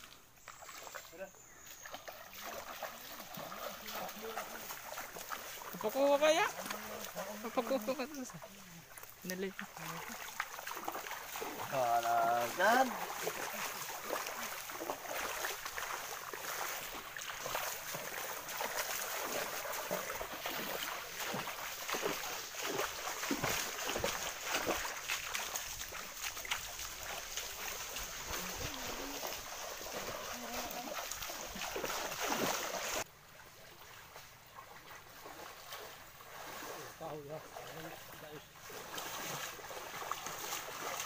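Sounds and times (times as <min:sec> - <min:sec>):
creek water trickling: 0:00.0 - 0:41.0
water splashing from wading: 0:00.0 - 0:41.0.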